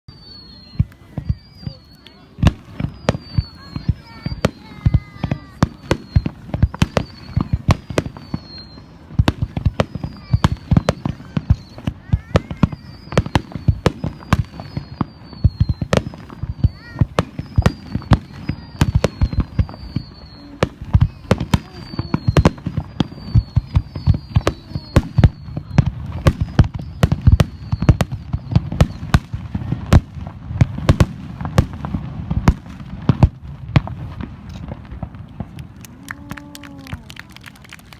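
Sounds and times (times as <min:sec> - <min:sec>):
fireworks bangs and crackles: 0:00.1 - 0:37.9.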